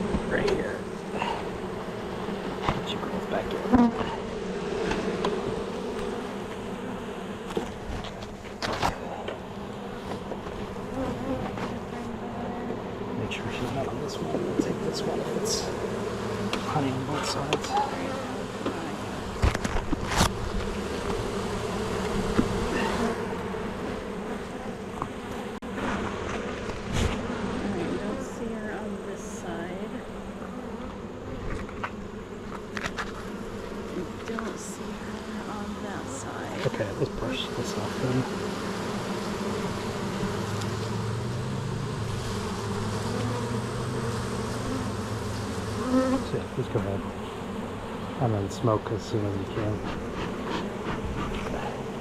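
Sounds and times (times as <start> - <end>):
honeybees buzzing: 0.0 - 52.0.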